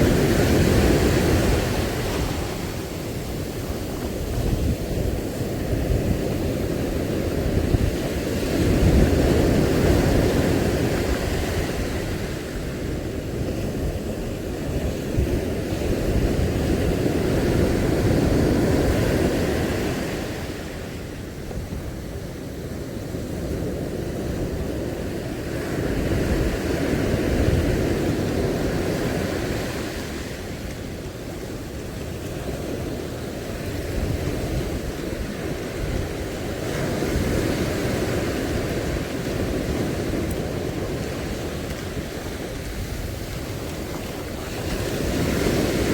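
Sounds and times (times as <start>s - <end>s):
surf washing against rocks: 0.0s - 45.9s
wind rumbling on microphone: 0.0s - 45.9s.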